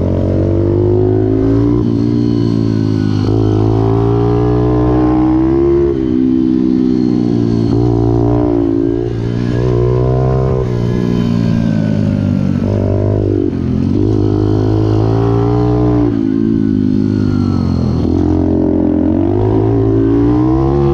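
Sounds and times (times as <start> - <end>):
motorbike engine revving: 0.0 - 20.9.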